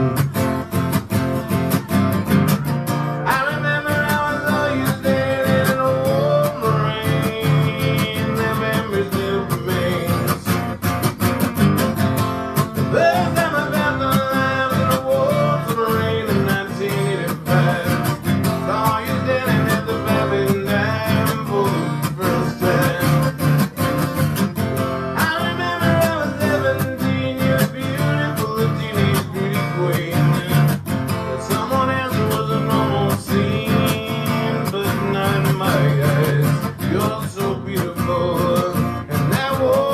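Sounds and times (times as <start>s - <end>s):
man singing: 0.0s - 0.4s, 1.7s - 10.9s, 12.6s - 39.9s
acoustic guitar strumming: 0.0s - 39.9s.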